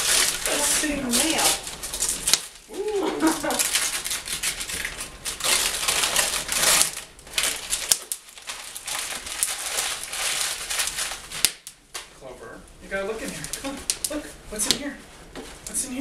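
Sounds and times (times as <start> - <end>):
wrapping paper crinkling: 0.0 - 12.1, 13.1 - 15.8.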